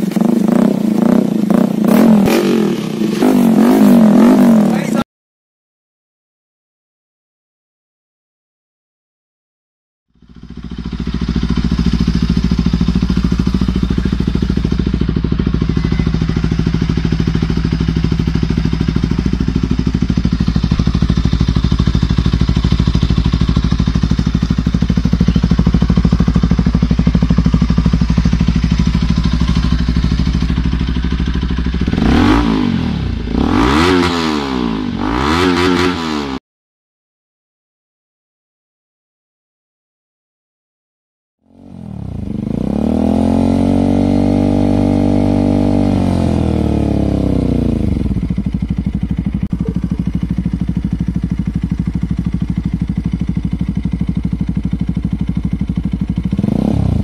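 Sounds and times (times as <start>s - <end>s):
motorcycle engine idling and revving: 0.0s - 5.0s, 10.1s - 36.4s, 41.4s - 57.0s.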